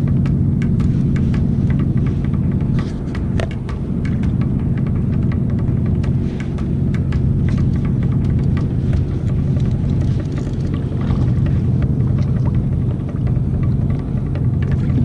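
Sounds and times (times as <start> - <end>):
low drone music with sharp hits: 0.0 - 15.0.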